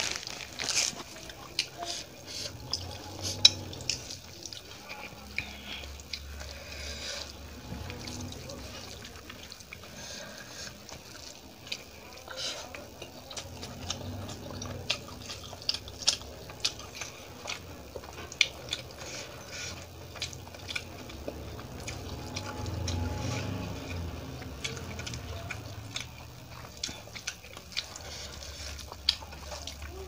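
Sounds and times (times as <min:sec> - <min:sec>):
chewing: 0:00.0 - 0:30.0.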